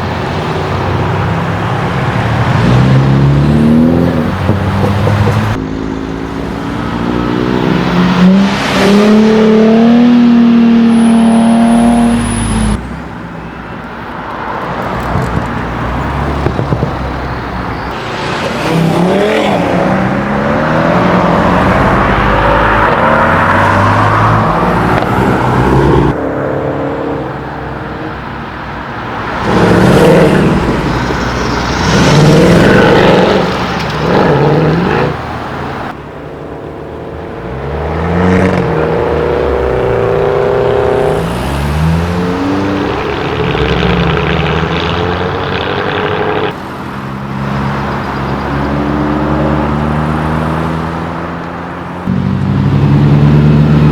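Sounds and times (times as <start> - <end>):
car engines revving and accelerating: 0.0 - 13.2, 14.4 - 53.9.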